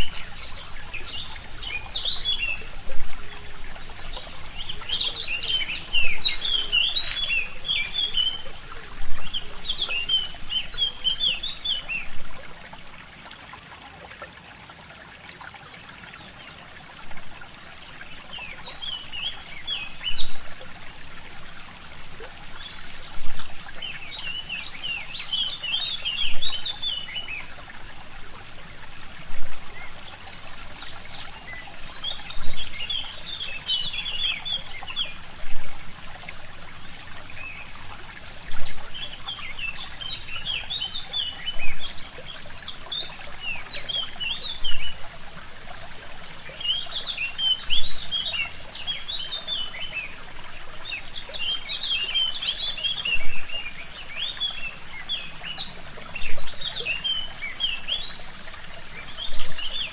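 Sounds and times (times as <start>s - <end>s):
songbirds chirping: 0.0s - 13.5s, 16.0s - 59.9s
stream trickling: 0.0s - 59.9s.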